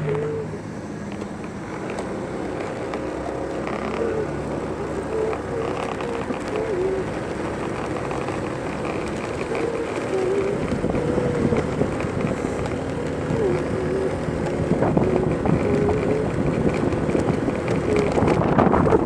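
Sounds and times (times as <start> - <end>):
road and wheel noise: 0.0 - 19.0.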